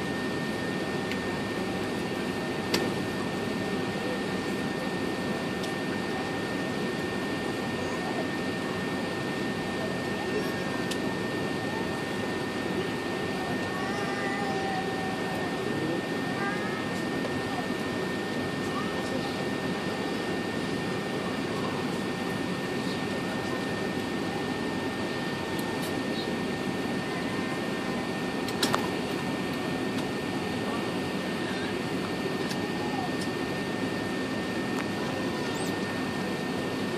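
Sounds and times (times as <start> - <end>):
jet engines and air conditioning rush: 0.0 - 36.9.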